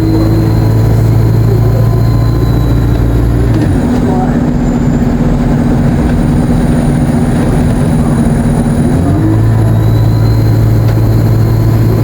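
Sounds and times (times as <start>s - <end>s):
bus diesel engine: 0.0s - 12.0s
high turbo whine: 0.0s - 12.0s.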